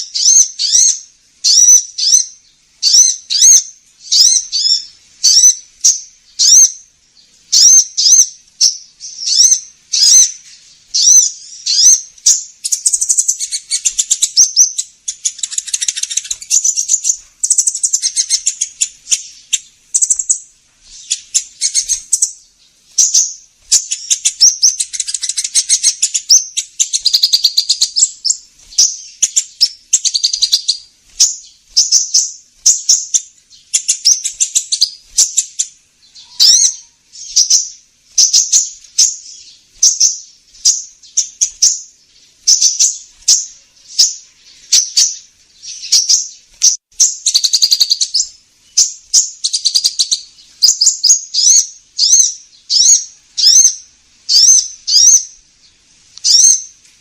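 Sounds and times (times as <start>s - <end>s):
bird chirps and trills: 0.0s - 56.9s.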